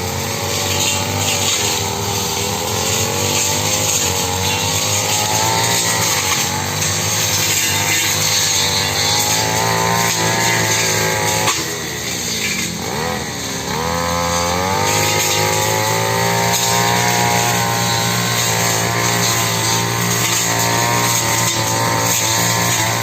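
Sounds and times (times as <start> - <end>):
brush cutter engine at high speed: 0.0 - 23.0.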